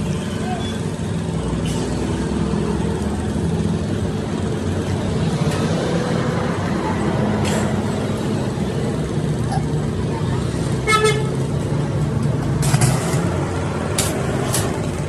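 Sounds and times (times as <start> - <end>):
engine running: 0.0 - 15.0
road traffic noise: 0.0 - 15.0.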